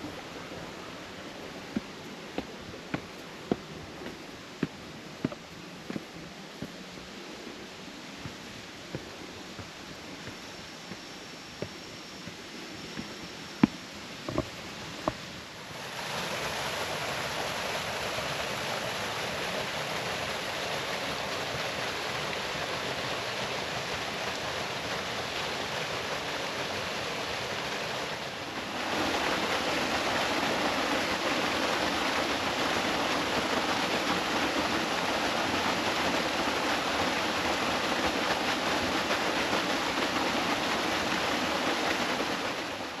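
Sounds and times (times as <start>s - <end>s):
water rushing at waterfall: 0.0s - 43.0s.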